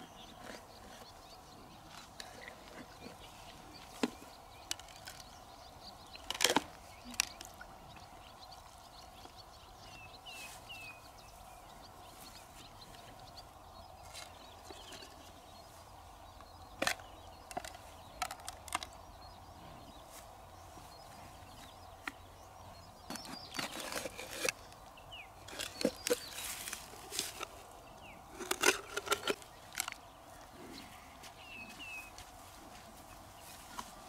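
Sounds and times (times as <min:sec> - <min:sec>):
faint outdoor hiss: 0:00.0 - 0:34.0.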